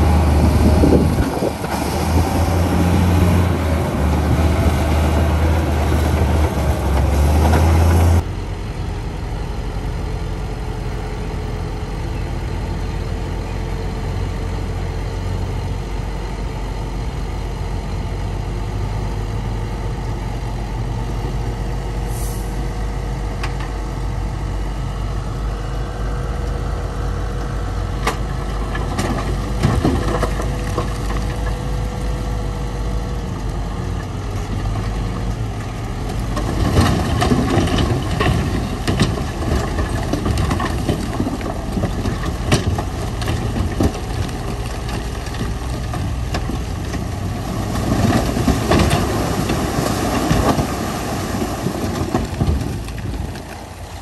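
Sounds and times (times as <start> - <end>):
diesel machinery engine: 0.0 - 54.0.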